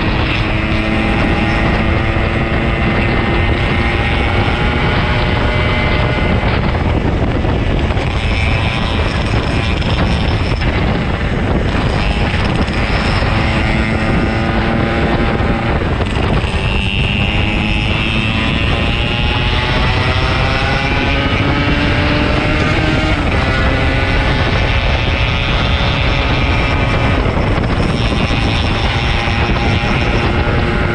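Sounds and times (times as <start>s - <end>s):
two-stroke motorcycle engine: 0.0s - 30.9s
wind noise on microphone: 0.0s - 30.9s.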